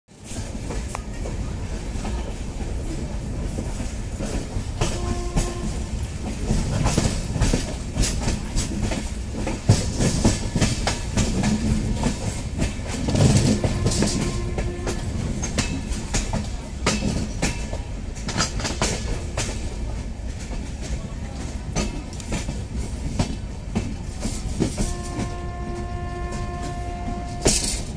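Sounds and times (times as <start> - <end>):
train rumbling at speed: 0.1 - 27.9
wheels clacking over rail joints: 0.2 - 27.9.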